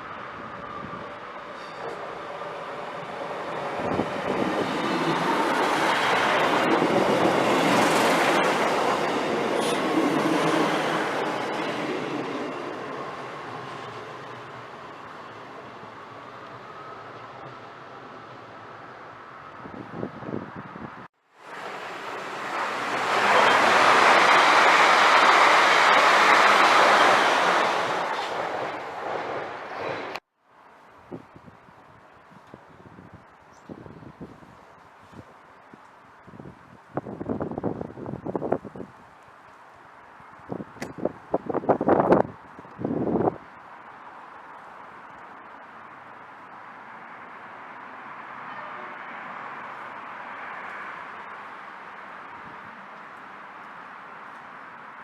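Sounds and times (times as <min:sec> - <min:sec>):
train passing on rails: 0:00.0 - 0:55.0.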